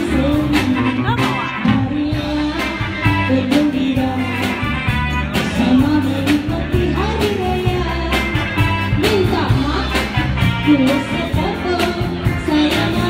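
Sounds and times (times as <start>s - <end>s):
woman singing into microphone: 0.0s - 4.8s, 5.4s - 13.0s
live band playing: 0.0s - 13.0s.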